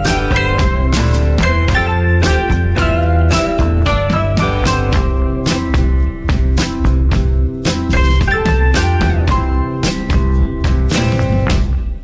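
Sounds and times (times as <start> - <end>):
upbeat guitar instrumental: 0.0 - 12.0.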